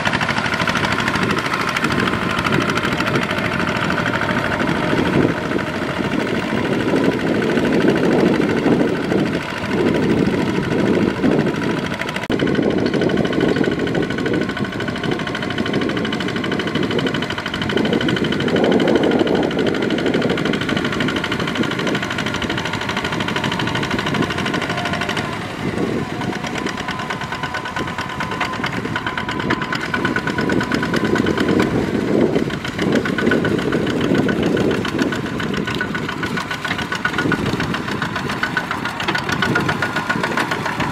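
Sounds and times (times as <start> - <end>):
diesel engine knocking: 0.0 - 40.9
wheels through mud: 0.0 - 40.9.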